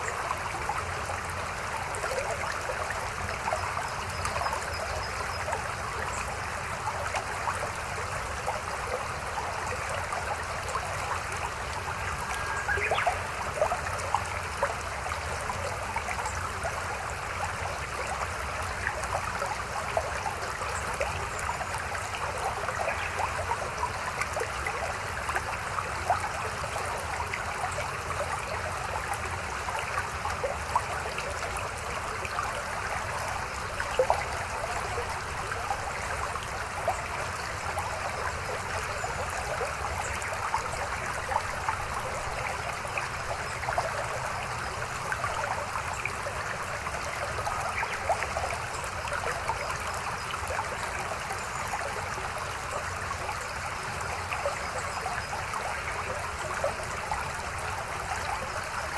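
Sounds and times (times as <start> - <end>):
stream babbling over rocks: 0.0 - 58.9.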